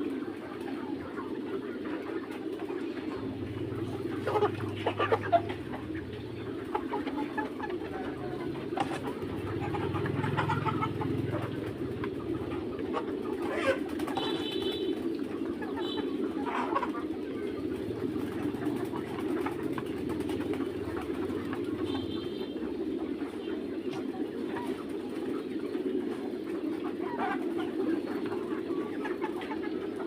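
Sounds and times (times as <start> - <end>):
chicks chirping and peeping: 0.0 - 30.0
chicks murmuring calls: 0.0 - 30.0.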